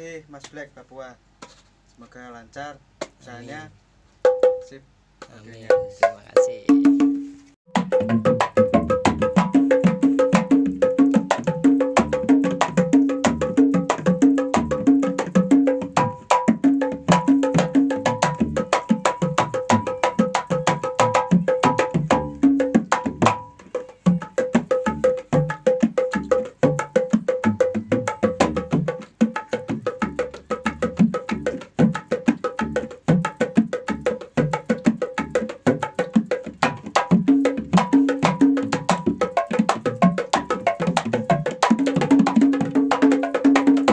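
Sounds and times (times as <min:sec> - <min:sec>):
hand drums playing fast rhythm: 0:04.3 - 0:04.7, 0:05.6 - 0:43.9.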